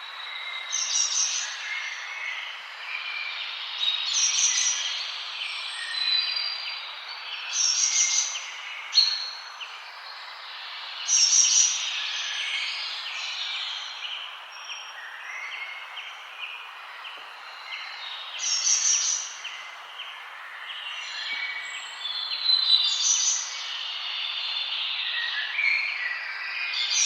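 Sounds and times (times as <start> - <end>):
small birds chirping and trilling: 0.0 - 27.0
steady background hiss: 0.0 - 27.0.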